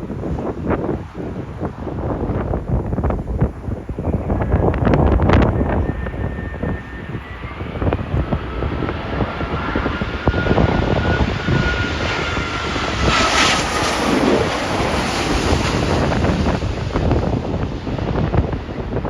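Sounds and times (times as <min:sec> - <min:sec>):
jet airliner passing overhead: 0:00.0 - 0:19.0
wind buffeting microphone: 0:00.0 - 0:19.0.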